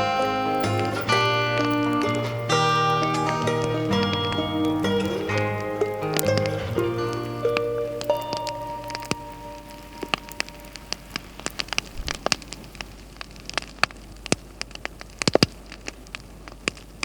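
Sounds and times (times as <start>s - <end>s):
crackling clicks: 0.0s - 17.0s
faint steady hiss: 0.0s - 17.0s.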